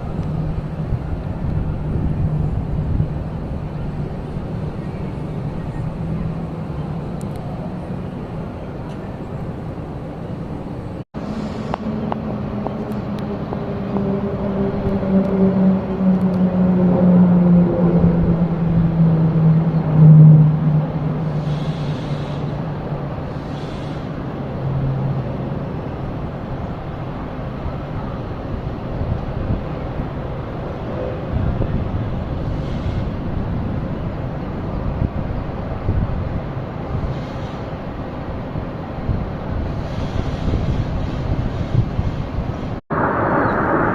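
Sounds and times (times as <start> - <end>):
aircraft engine rumble: 0.0 - 43.9
wind buffeting microphone: 0.0 - 43.9.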